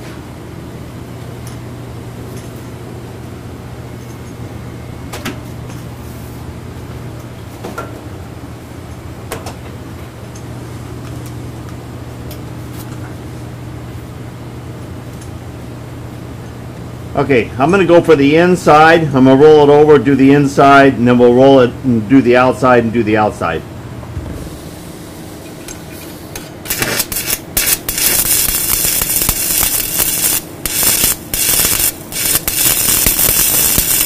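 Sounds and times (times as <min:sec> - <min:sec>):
shop equipment humming: 0:00.0 - 0:34.0.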